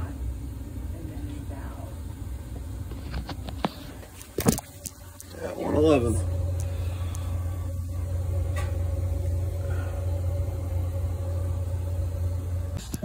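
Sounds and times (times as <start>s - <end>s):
faint high whine: 0.0s - 13.0s
low machine hum: 0.0s - 13.0s.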